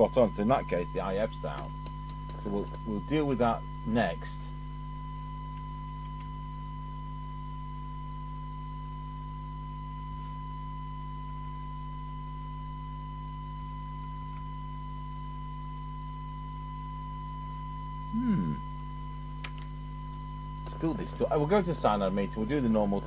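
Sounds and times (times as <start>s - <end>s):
low hum: 0.0s - 23.0s
test tone from loudspeaker: 0.0s - 23.0s.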